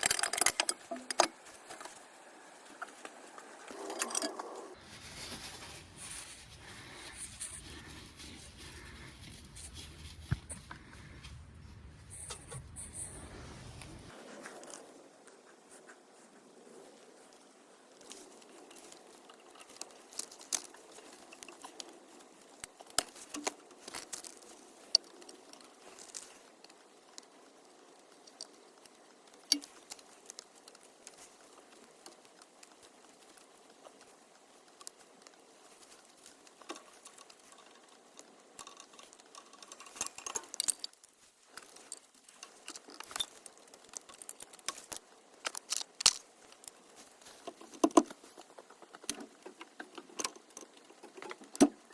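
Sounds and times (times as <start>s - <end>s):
faint steady hiss: 0.0s - 51.9s.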